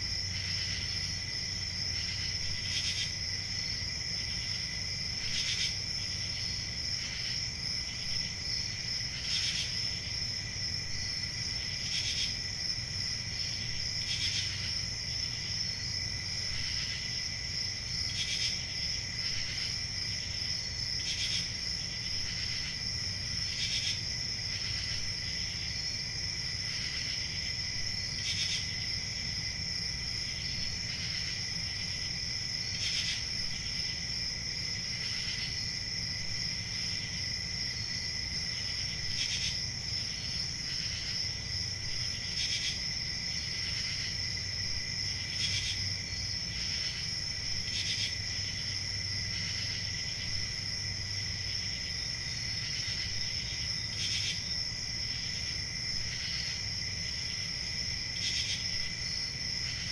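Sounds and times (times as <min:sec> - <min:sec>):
crickets trilling: 0:00.0 - 0:59.9
loud single cricket chirp: 0:00.0 - 0:59.9.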